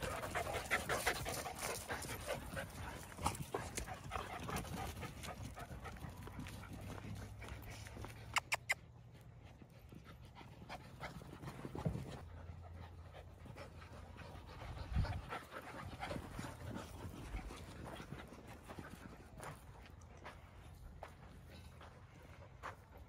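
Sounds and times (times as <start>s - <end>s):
dogs panting: 0.0s - 23.0s.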